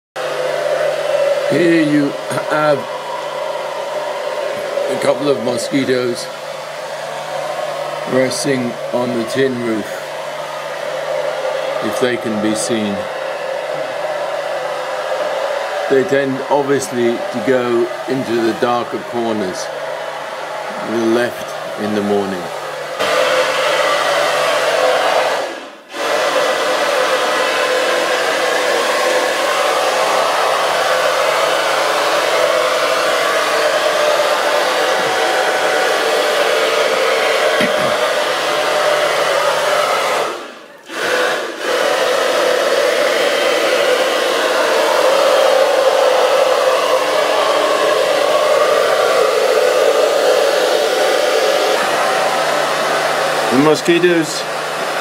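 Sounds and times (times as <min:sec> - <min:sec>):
fan motor whirring: 0:00.2 - 0:55.0.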